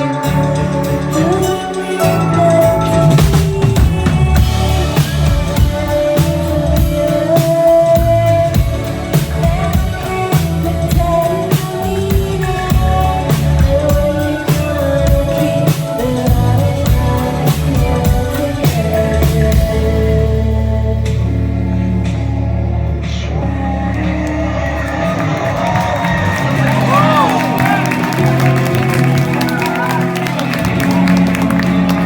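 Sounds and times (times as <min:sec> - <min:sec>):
drum kit beat: 0:00.0 - 0:21.2, 0:25.3 - 0:32.0
guitars and bass: 0:00.0 - 0:32.0
person singing: 0:00.0 - 0:32.0.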